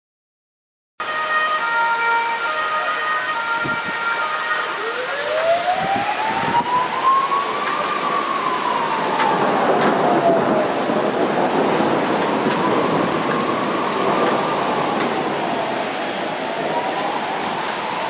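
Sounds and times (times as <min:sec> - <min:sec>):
rain falling: 0:01.0 - 0:18.0
siren wailing: 0:01.0 - 0:18.0.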